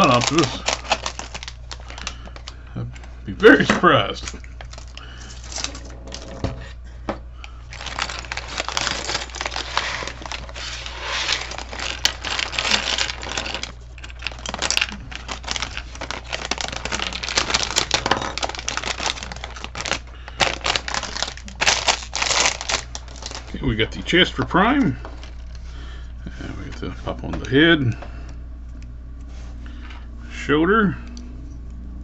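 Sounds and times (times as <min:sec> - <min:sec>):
plastic packaging crinkling: 0:00.0 - 0:06.4, 0:07.5 - 0:27.2.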